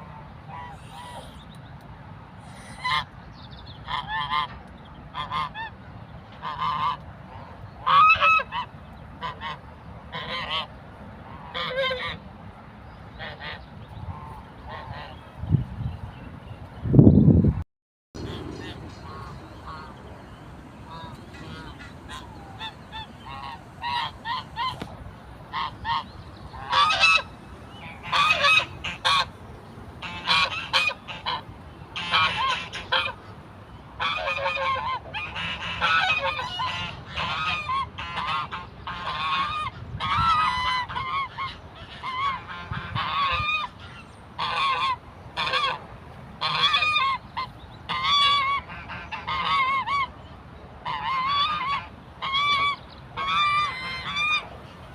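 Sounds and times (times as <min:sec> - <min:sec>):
geese honking: 0:00.0 - 0:01.4, 0:02.5 - 0:03.1, 0:03.8 - 0:12.2, 0:18.2 - 0:33.4, 0:34.0 - 0:45.8, 0:46.4 - 0:50.1, 0:50.8 - 0:54.9.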